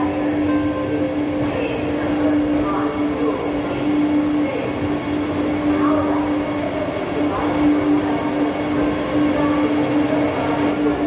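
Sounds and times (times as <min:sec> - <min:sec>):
electric train humming: 0:00.0 - 0:11.0.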